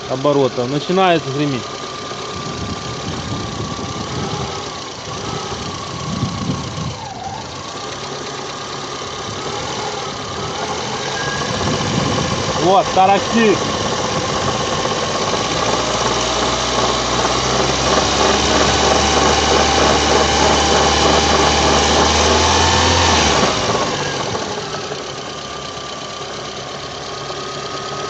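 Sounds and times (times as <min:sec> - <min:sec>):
alternator rattle: 0:00.0 - 0:28.0
car engine running: 0:00.0 - 0:28.0.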